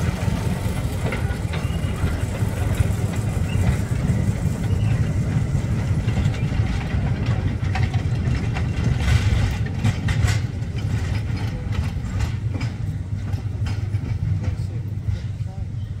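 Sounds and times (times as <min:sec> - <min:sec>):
locomotive engine rumbling: 0:00.0 - 0:16.0
passing train clicks: 0:00.0 - 0:16.0.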